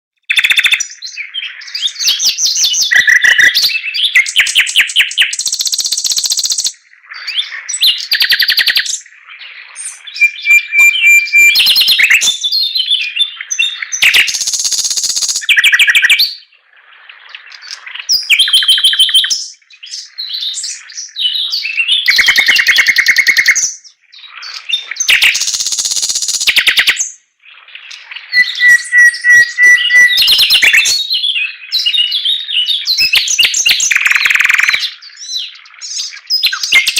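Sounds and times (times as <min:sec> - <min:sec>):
bird singing trills: 0:00.2 - 0:36.9.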